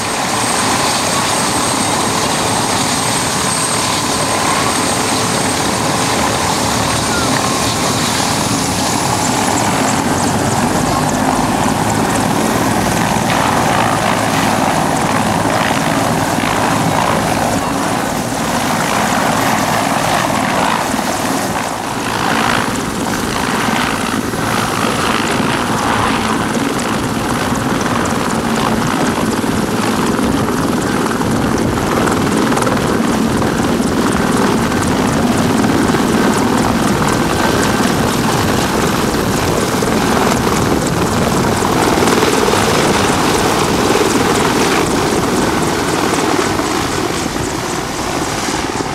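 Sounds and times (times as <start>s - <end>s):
helicopter engines and rotor: 0.0s - 48.9s.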